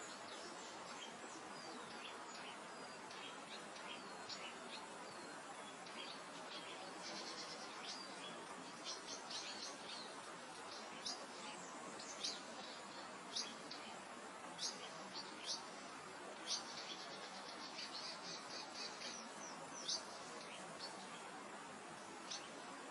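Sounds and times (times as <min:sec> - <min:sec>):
small birds chirping: 0:00.0 - 0:22.9
soft wind: 0:00.0 - 0:22.9.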